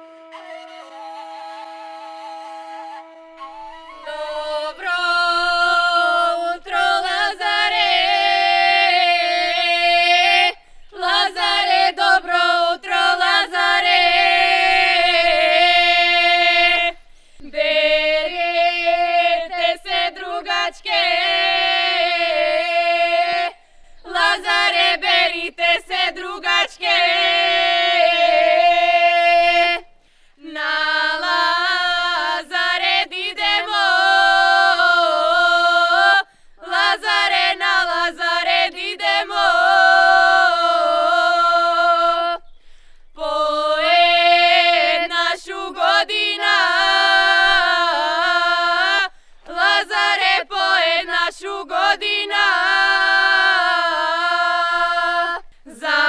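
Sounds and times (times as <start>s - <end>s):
women singing unaccompanied: 0.8s - 56.0s.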